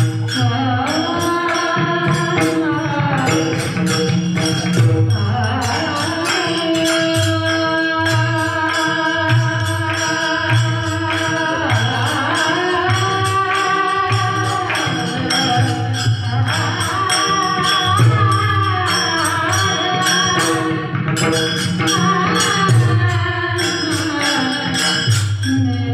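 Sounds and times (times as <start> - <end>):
jingling percussion: 0.0 - 25.9.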